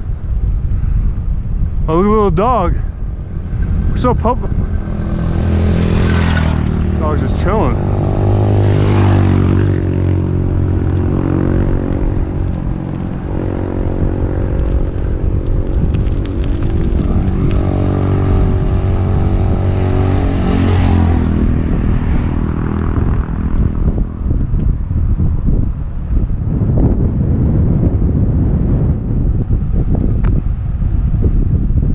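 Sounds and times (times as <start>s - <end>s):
wind on microphone: 0.0s - 31.9s
vehicle engine running: 3.0s - 31.5s.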